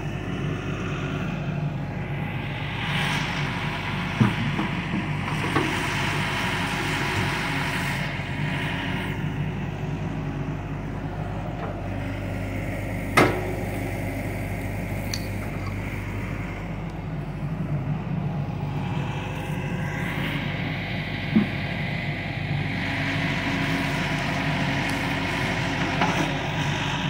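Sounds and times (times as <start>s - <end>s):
excavator diesel engine: 0.0s - 27.0s.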